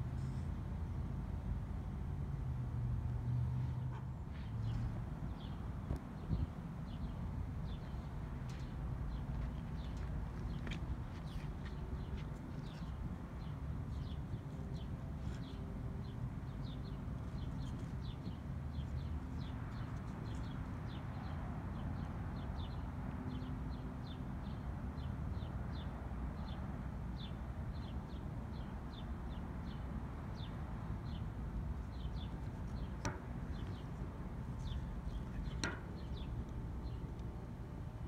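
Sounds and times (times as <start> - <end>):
small birds chirping: 3.6 - 26.6, 27.2 - 38.0.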